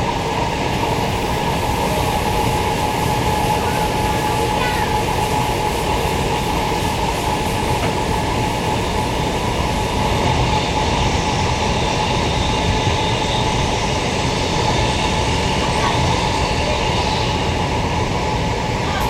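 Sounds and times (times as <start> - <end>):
train wheels rumbling on track: 0.0 - 19.0
train whine: 0.0 - 19.0.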